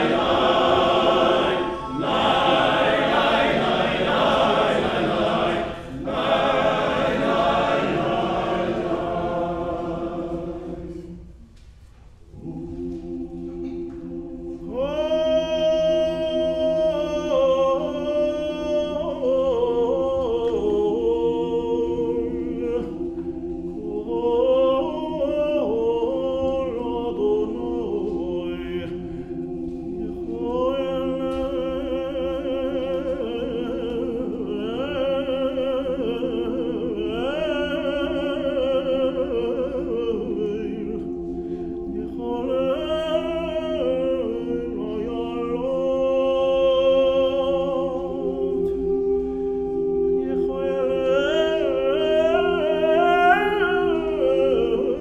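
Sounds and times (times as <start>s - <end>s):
choir holding chords: 0.0s - 11.5s, 12.2s - 55.0s
tenor singing ornamented chant: 0.0s - 11.5s, 12.3s - 55.0s.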